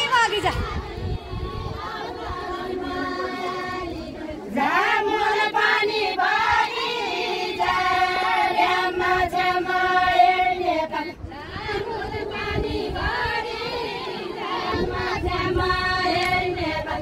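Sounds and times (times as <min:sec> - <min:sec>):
women singing folk song: 0:00.0 - 0:17.0.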